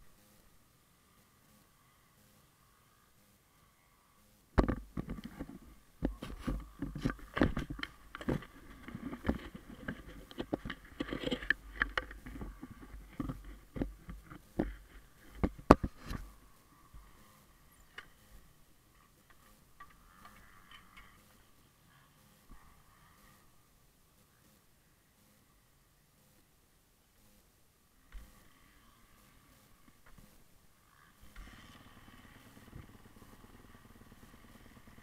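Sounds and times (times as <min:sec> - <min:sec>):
faint rustles: 0:00.0 - 0:35.0.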